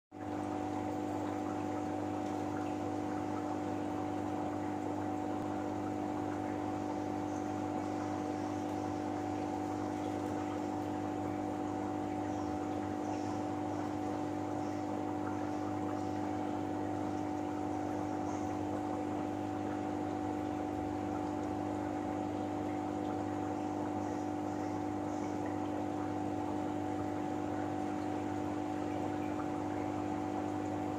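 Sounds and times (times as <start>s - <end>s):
aquarium pumps humming: 0.2s - 30.9s.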